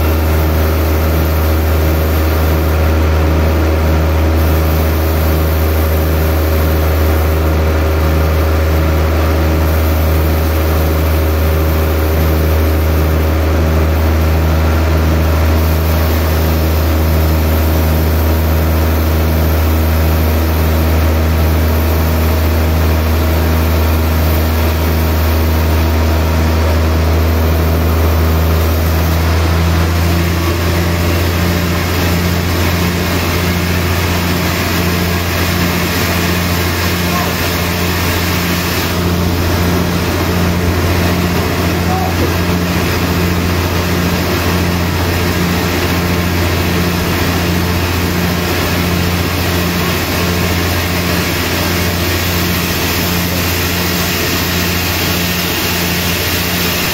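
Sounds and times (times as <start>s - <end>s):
band saw cutting log: 0.0s - 56.9s.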